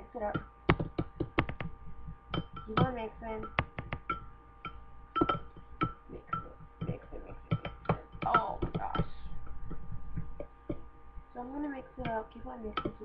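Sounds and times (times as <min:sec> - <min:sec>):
steady multi-tone hum: 0:00.0 - 0:13.0.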